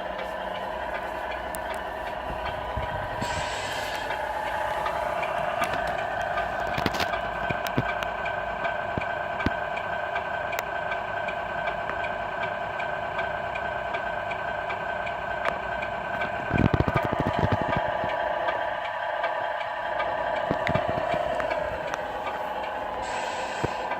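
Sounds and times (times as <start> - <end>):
model truck drive whine: 0.0 - 23.9.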